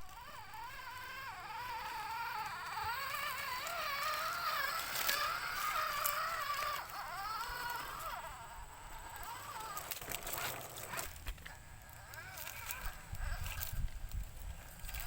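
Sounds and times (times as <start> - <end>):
toy car electric motor whining: 0.0 - 15.0.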